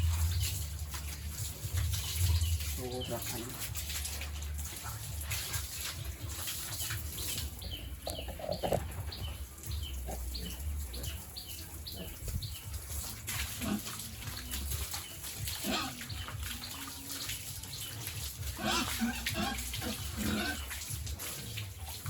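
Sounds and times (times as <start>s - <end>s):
running water splashing: 0.0s - 22.0s.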